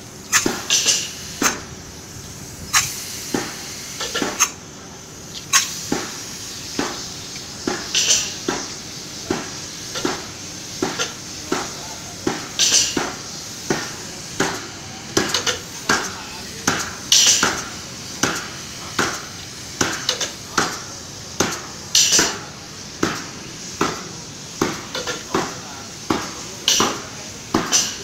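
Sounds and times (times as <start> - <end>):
spray gun hissing: 0.0 - 28.0.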